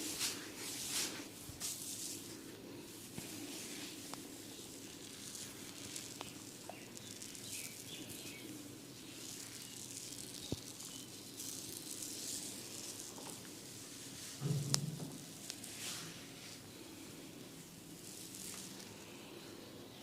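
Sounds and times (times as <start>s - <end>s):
hair scratching and rustling: 0.0s - 19.5s.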